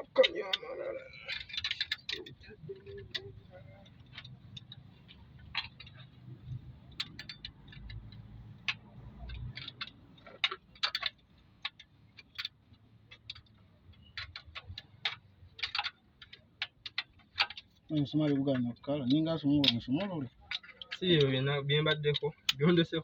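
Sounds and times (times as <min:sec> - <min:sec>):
metallic clicks and taps of tools: 0:01.2 - 0:22.7.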